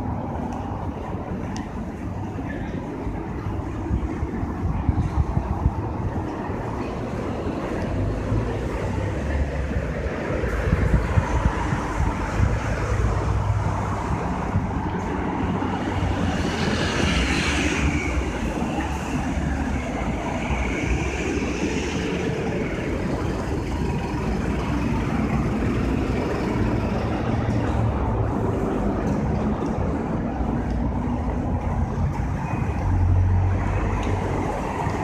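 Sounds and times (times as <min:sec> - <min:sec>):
road noise with engine rumble: 0:00.0 - 0:35.0
vehicles passing: 0:00.0 - 0:35.0.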